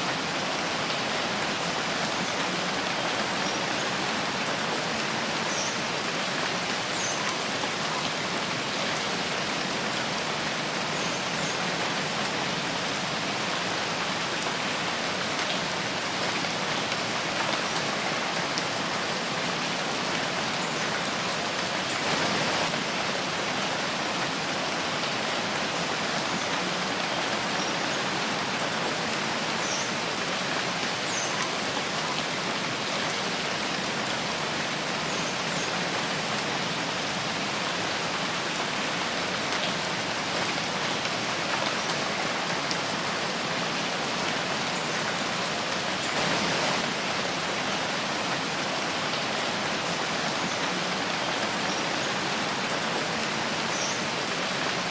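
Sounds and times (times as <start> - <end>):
rain falling in a forest: 0.0 - 54.9.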